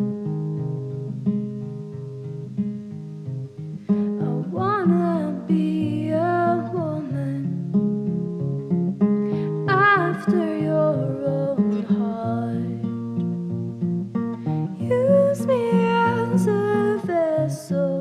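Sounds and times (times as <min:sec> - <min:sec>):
slow acoustic guitar: 0:00.0 - 0:18.0.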